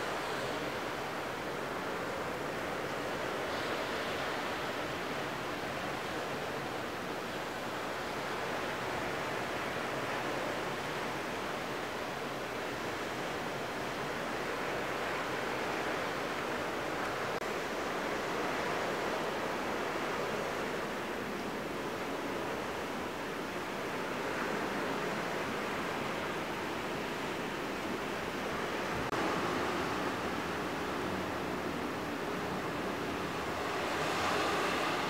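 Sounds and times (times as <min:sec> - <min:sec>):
steady rushing noise: 0:00.0 - 0:35.0.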